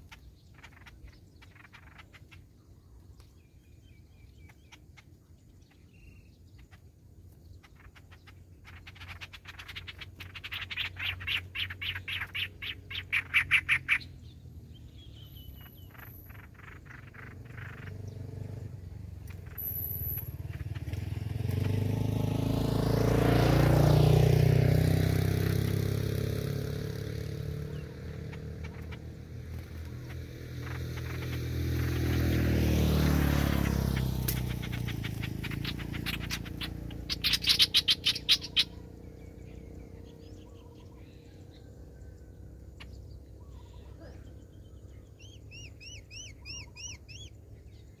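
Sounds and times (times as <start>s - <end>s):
bird trilling: 0.0s - 2.9s, 3.9s - 21.9s, 24.8s - 47.8s
bird chirping: 0.0s - 48.0s
vehicles passing: 0.0s - 48.0s.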